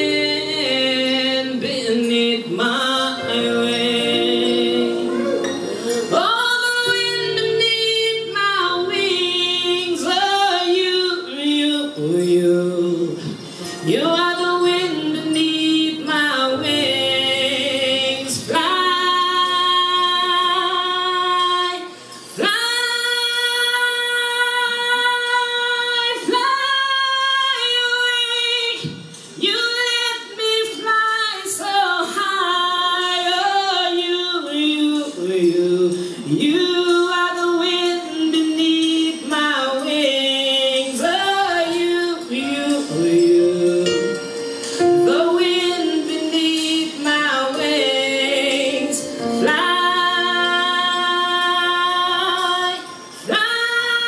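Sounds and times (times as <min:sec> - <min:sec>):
woman singing: 0:00.0 - 0:54.0.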